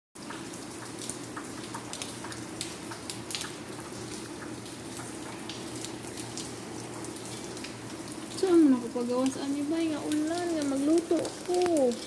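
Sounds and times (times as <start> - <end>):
rain drop ticks: 0.2 - 12.0
light rain hissing: 0.3 - 12.0.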